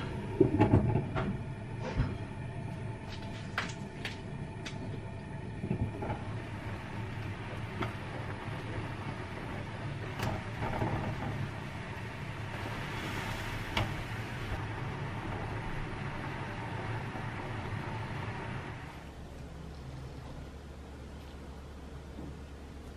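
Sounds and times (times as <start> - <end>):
bubbling hiss in a frying pan: 0.0 - 22.9
low hum: 0.0 - 22.9.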